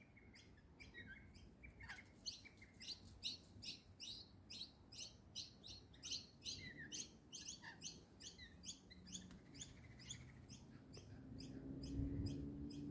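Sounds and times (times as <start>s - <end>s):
small bird chirping: 0.0s - 12.9s.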